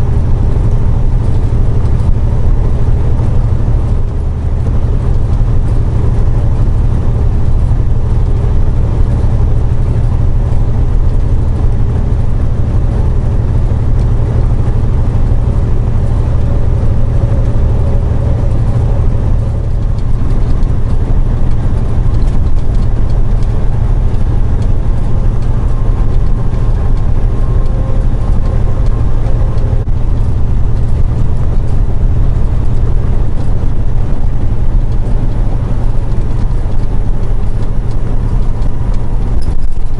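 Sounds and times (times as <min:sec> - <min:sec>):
road and wind noise: 0:00.0 - 0:39.9
truck engine rumble: 0:00.0 - 0:39.9.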